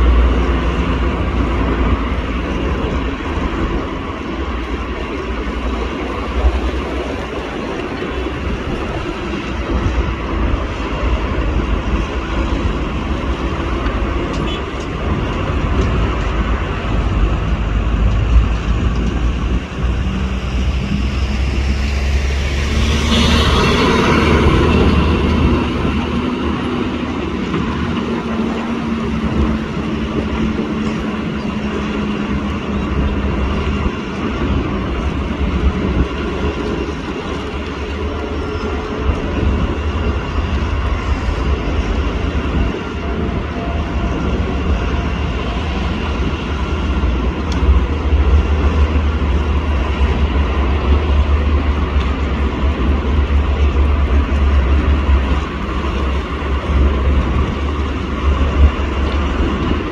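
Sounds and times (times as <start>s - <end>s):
heavy engine rumbling: 0.0s - 59.9s.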